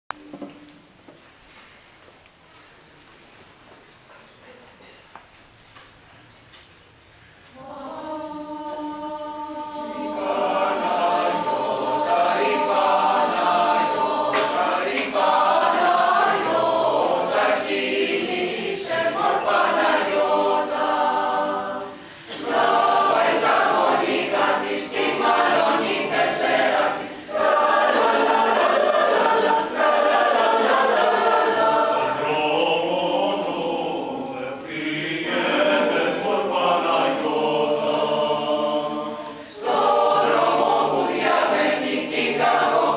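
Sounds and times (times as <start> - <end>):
mixed choir singing a cappella: 7.5 - 42.9.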